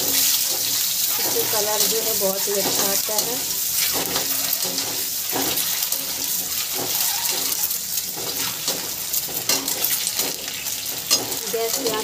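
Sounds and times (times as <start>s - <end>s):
eggs sizzling in oil: 0.0s - 12.0s
oil crackling spatters: 0.0s - 12.0s.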